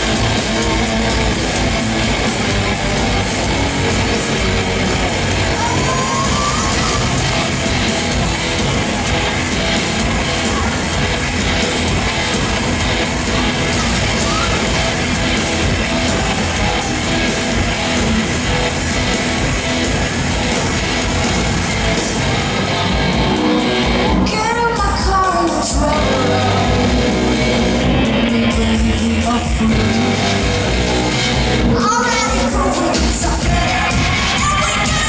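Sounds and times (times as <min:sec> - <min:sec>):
live rock band with singer: 0:00.0 - 0:35.0.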